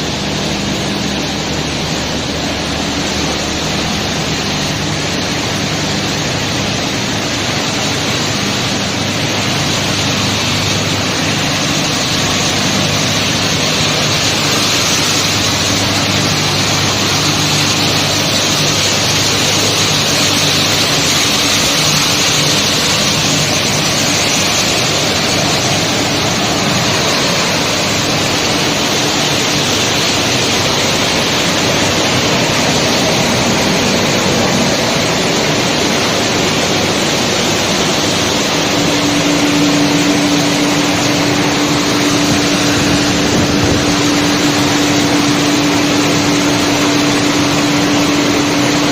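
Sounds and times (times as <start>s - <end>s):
loud steady rushing noise: 0.0s - 48.9s
low motor hum: 0.0s - 48.9s.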